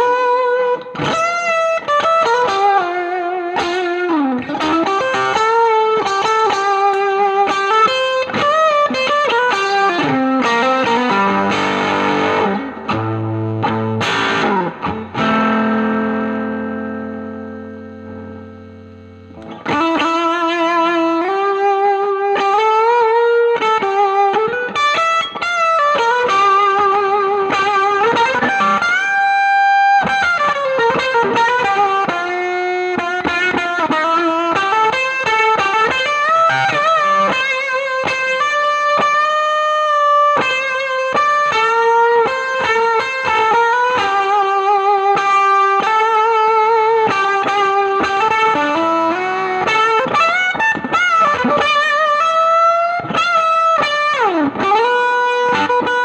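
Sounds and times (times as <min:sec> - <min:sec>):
fuzz electric guitar lead lines: 0:00.0 - 0:56.0.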